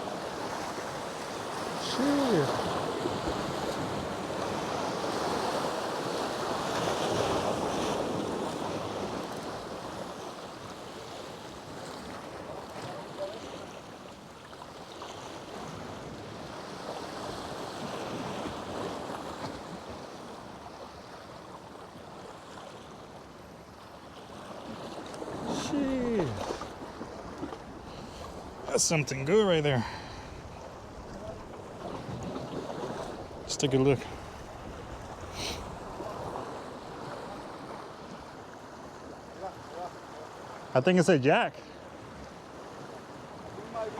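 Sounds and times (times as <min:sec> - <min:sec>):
surf washing: 0:00.0 - 0:43.9.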